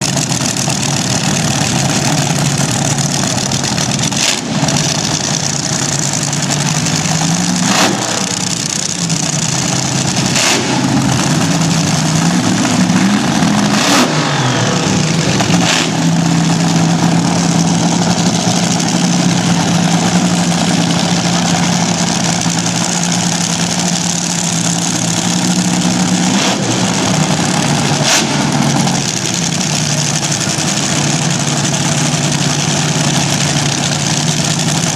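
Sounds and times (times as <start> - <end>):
dragster engine revving: 0.0 - 34.9
sharp exhaust cracks: 0.0 - 34.9.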